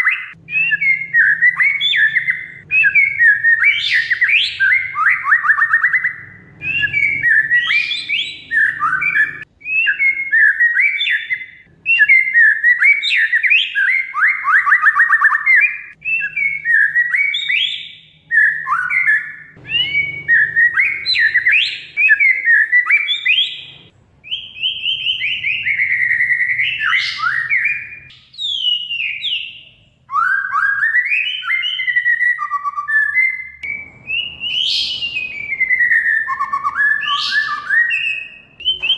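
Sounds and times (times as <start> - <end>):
songbird singing whistled phrases: 0.0 - 38.9.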